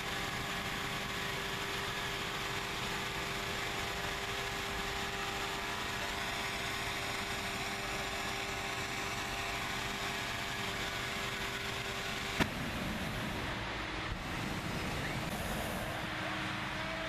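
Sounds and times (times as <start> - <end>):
propane burner roaring: 0.0 - 17.0
steady mechanical hum: 0.0 - 17.0.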